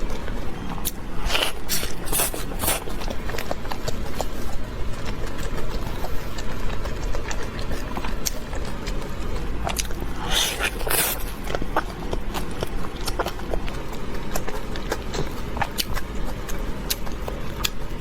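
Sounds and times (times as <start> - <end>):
chewing crispy food: 0.0 - 18.0.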